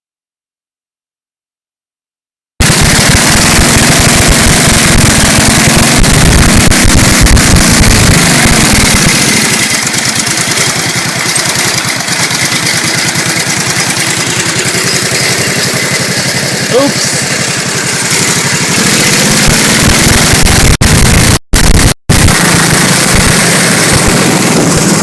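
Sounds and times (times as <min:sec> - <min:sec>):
lawnmower engine running: 0:02.6 - 0:25.0.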